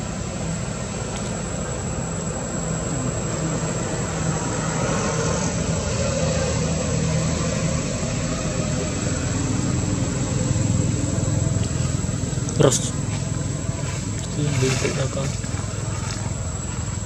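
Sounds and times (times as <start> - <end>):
engine drone with low rumble: 0.0 - 17.0.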